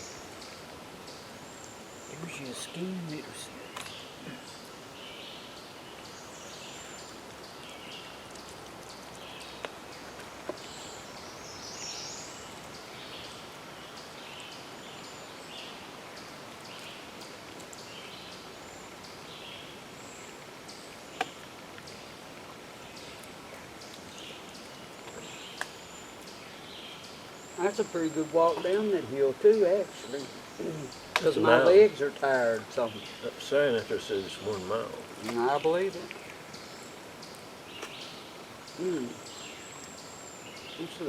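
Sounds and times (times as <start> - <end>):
birds chirping and singing: 0.0 - 22.1, 22.9 - 41.0
steady background hiss: 0.0 - 41.0.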